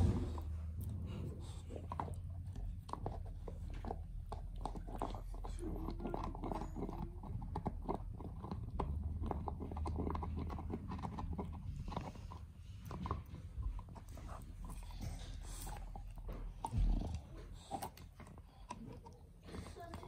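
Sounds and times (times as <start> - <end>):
dog gnawing on antler: 0.0 - 20.0.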